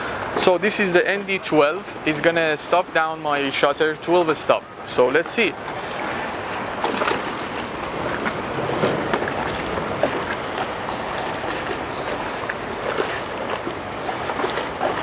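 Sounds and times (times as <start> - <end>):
boat traffic and water wash: 0.0 - 15.0.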